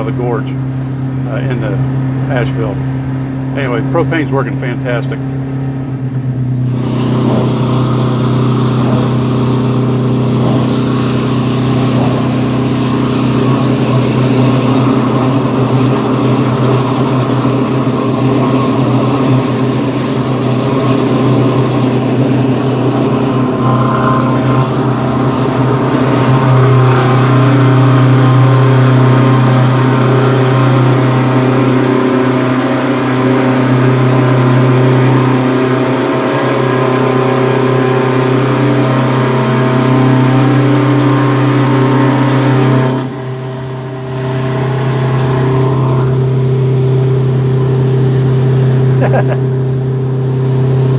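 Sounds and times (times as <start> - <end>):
diesel engine exhaust drone: 0.0 - 50.9.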